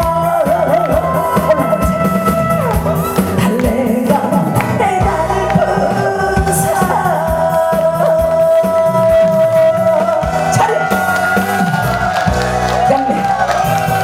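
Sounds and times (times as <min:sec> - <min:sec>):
band accompaniment: 0:00.0 - 0:14.0
person singing live: 0:00.0 - 0:14.0
steady drum beat: 0:00.0 - 0:14.0.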